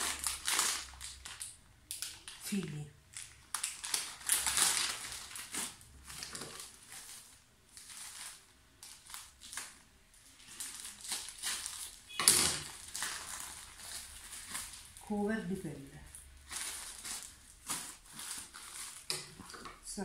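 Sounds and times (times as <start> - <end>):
plastic packets crinkling: 0.0 - 15.1, 15.8 - 19.9.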